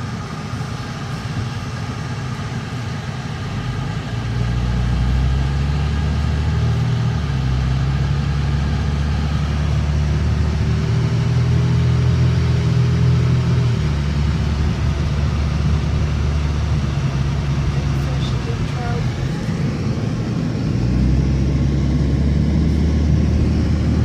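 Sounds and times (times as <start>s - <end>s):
car engine drone: 0.0s - 24.0s
road noise: 0.0s - 24.0s.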